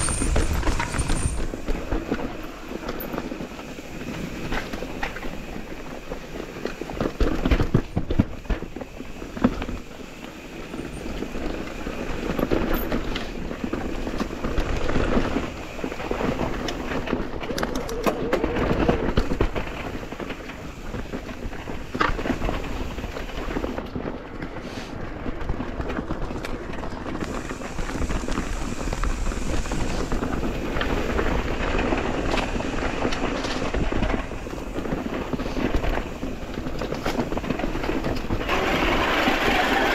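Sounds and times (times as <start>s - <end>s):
bike clattering over bumps: 0.0s - 24.6s, 25.2s - 39.9s
bike tyre rolling noise: 0.0s - 39.9s.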